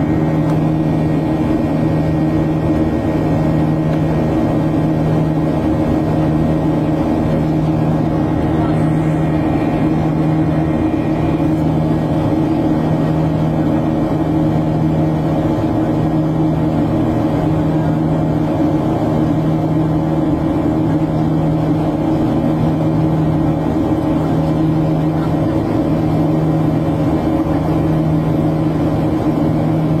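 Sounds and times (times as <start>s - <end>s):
engine drone in passenger cabin: 0.0s - 30.0s.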